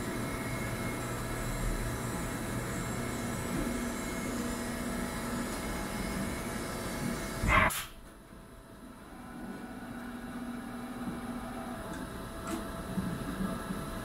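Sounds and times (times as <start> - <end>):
milling machine humming: 0.0 - 7.7, 8.3 - 14.0.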